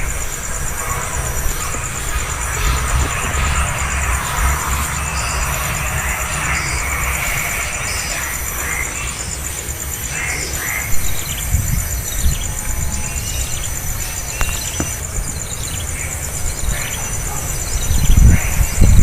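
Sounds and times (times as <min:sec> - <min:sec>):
pulsing insect trill: 0:00.0 - 0:19.0.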